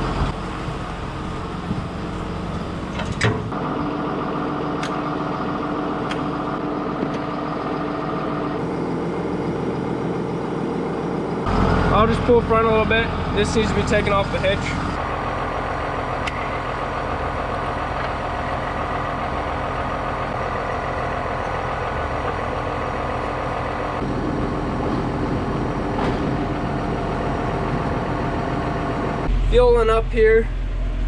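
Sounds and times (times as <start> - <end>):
tractor diesel engine idling: 0.0 - 31.0.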